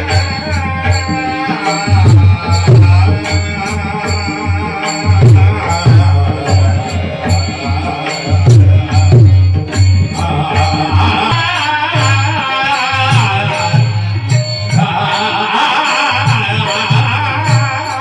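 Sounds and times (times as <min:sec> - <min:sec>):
high metallic ticks: 0:00.0 - 0:18.0
tabla playing: 0:00.0 - 0:18.0.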